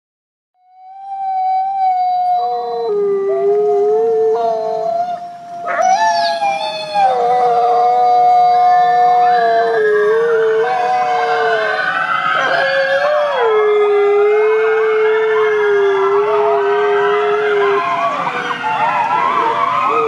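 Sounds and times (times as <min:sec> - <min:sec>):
cats and kittens howling: 0:00.7 - 0:20.0.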